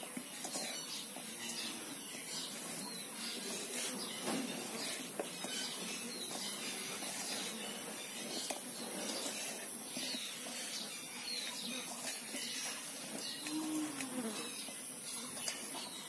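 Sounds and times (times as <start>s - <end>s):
hand mixing food in bowl: 0.0s - 14.6s.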